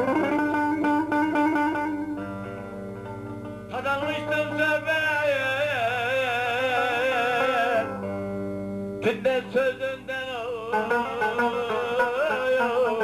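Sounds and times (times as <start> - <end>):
strummed lutes: 0.0 - 13.0.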